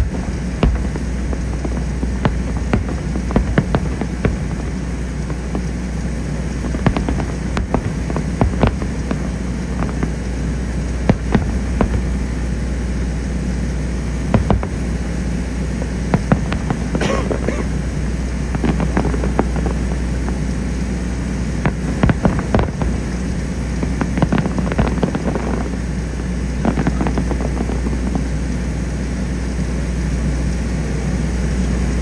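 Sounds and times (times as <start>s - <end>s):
fireworks bangs and crackles: 0.0s - 32.0s
low rumble: 0.0s - 32.0s.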